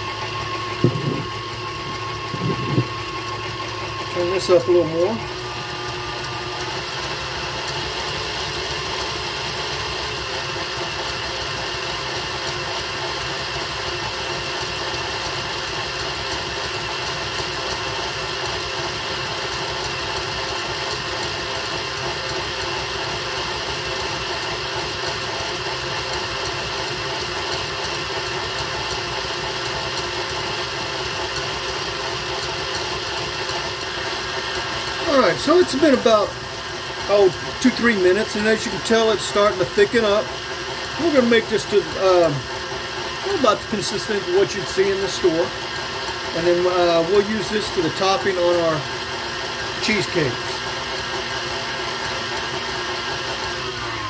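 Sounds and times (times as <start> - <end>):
stand mixer motor humming: 0.0 - 54.0
whisk whipping cream: 0.0 - 54.0.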